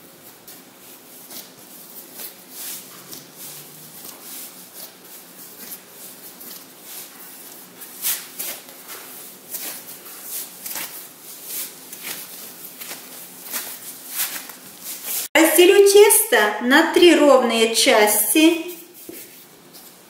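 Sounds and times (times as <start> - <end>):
hands kneading dough: 0.0 - 16.1, 18.5 - 20.0.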